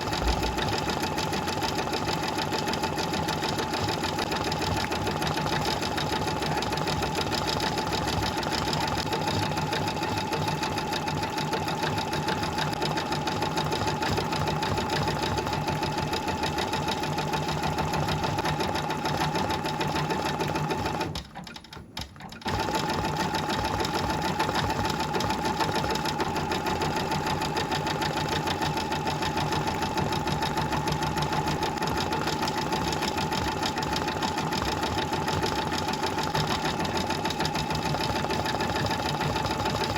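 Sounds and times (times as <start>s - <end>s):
embroidery machine fast rattle: 0.0s - 39.9s.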